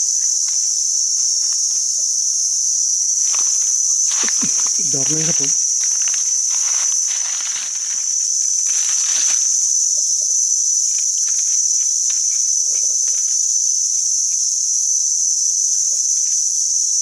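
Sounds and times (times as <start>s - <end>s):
faint rustles and ticks: 0.0s - 14.5s
insect chorus droning: 0.0s - 17.0s.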